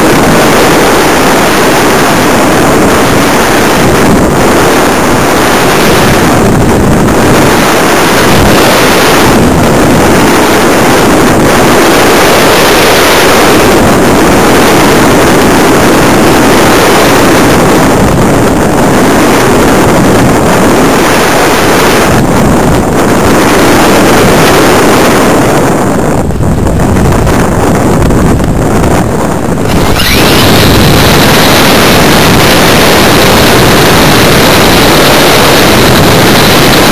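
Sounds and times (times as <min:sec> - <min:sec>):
air rushing past glider: 0:00.0 - 0:36.9.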